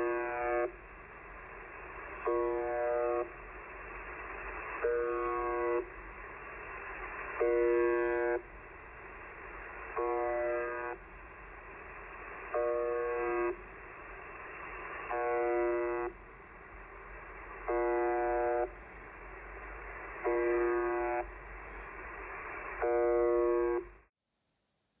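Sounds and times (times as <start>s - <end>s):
radio buzz: 0.0s - 24.1s
steady radio hiss: 0.0s - 25.0s.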